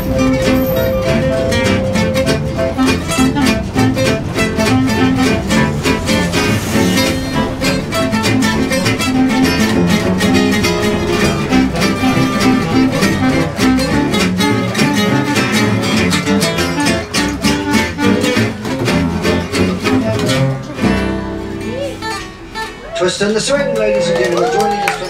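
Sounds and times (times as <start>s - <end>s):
swing jazz band playing: 0.0s - 24.8s.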